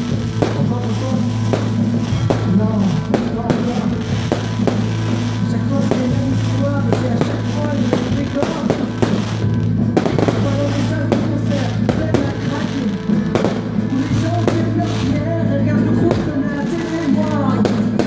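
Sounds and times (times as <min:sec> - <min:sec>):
fireworks banging and crackling: 0:00.0 - 0:18.0
music playing: 0:00.0 - 0:18.0.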